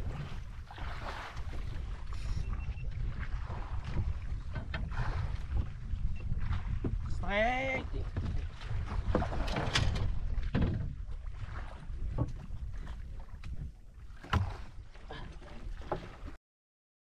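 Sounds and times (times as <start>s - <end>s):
water noise: 0.0s - 16.4s
wind: 0.0s - 16.4s.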